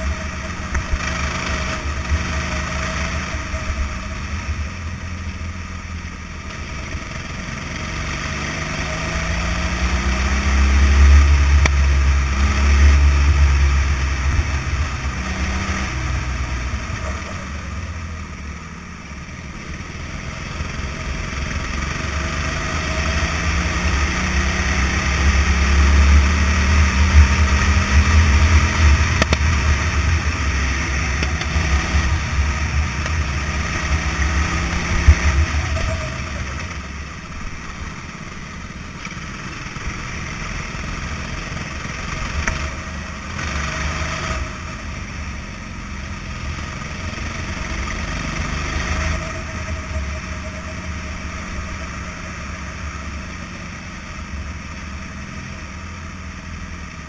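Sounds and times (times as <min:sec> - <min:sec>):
go-kart engine rumbling: 0:00.0 - 0:57.0.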